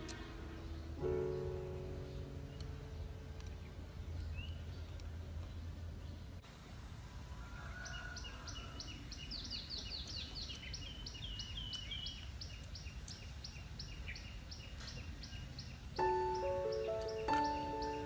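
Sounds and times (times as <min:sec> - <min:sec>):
bird singing chirps: 0:00.0 - 0:06.4, 0:07.8 - 0:18.0
low background noise: 0:00.0 - 0:18.0.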